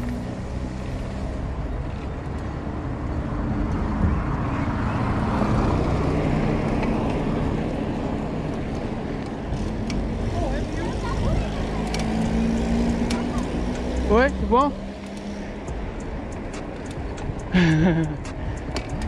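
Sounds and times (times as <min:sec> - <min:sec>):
tyre noise on asphalt: 0:00.0 - 0:19.0
wind rushing over microphone: 0:01.2 - 0:19.0.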